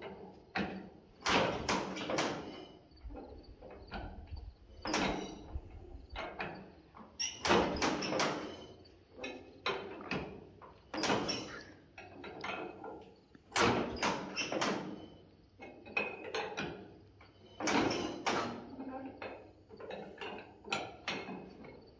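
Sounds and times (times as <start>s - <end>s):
irregular knocks and clunks: 0.0s - 21.9s.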